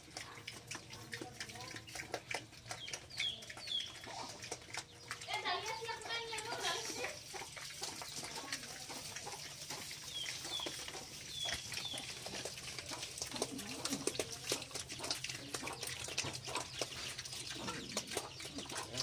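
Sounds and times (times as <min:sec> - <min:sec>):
piglets chomping and smacking: 0:00.0 - 0:19.0.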